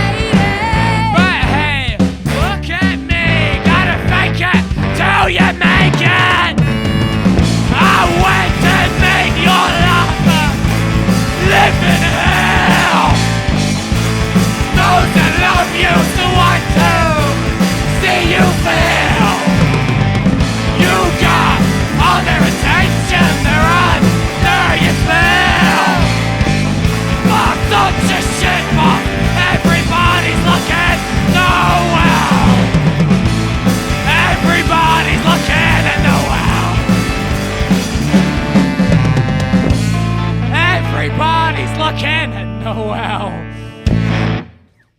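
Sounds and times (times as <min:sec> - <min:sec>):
rock band playing: 0:00.0 - 0:44.7
bending melodic lead line: 0:05.4 - 0:44.5.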